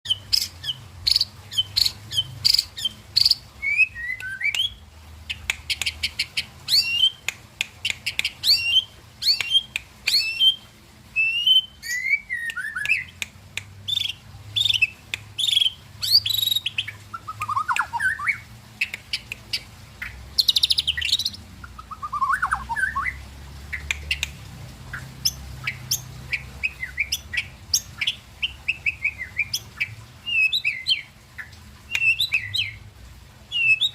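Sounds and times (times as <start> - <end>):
songbird whistles and trills: 0.1 - 32.8, 33.5 - 33.9.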